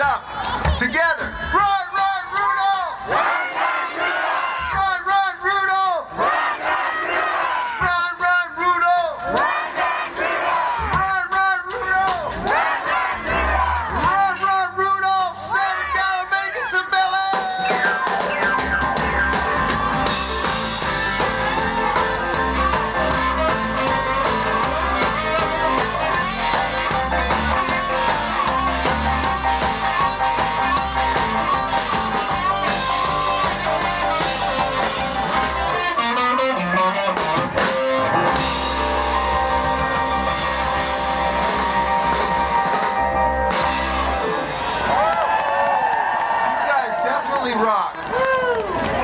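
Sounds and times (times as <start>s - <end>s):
live rock band: 0.0s - 49.0s.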